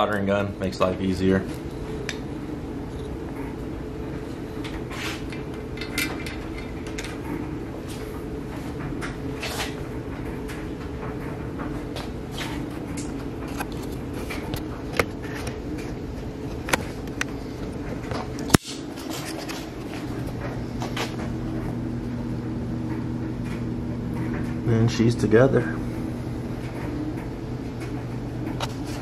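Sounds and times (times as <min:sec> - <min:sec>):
clothes dryer humming: 0:00.0 - 0:29.0.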